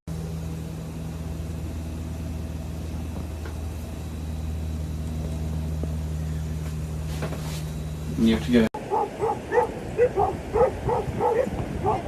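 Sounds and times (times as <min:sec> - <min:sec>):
low mechanical hum: 0:00.1 - 0:12.0.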